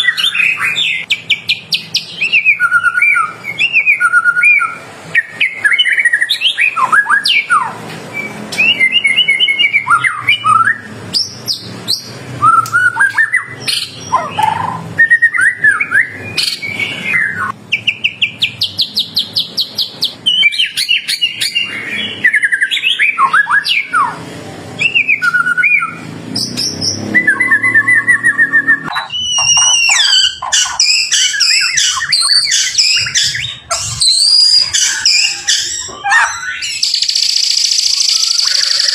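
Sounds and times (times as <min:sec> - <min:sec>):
songbird whistling and chirping: 0:00.0 - 0:24.2, 0:24.8 - 0:38.9.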